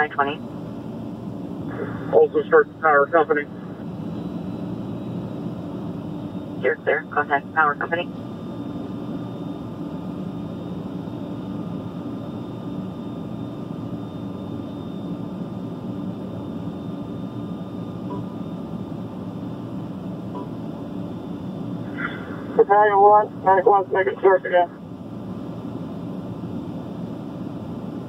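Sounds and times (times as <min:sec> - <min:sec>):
vehicle engine drone: 0:00.0 - 0:28.0.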